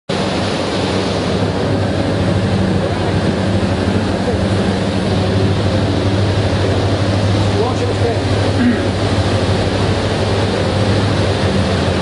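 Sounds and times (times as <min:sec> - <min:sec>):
radiator cooling fans running: 0:00.2 - 0:12.0.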